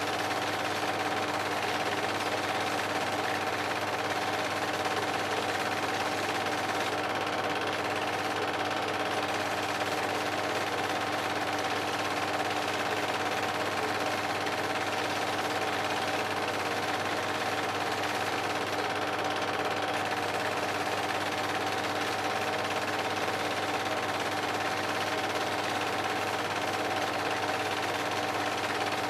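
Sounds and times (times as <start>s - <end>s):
film projector whirring: 0.0s - 29.0s.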